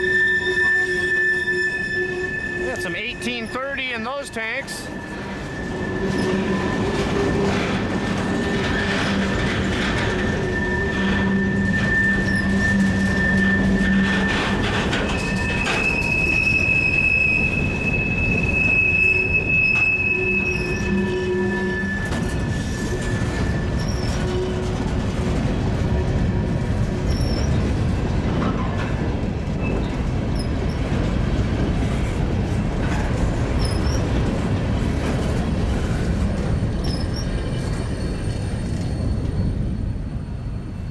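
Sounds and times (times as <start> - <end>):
train wheels squealing: 0.0 - 25.1, 26.0 - 28.9, 29.5 - 31.0, 32.8 - 34.4, 35.0 - 40.9
freight train cars rumbling past: 0.0 - 40.9.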